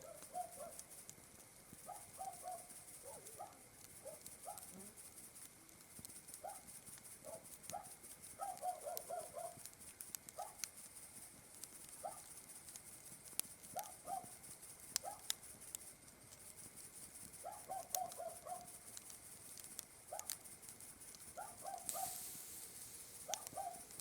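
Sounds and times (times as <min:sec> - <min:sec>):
campfire crackling and popping: 0:00.0 - 0:24.0
fire hiss: 0:00.0 - 0:24.0.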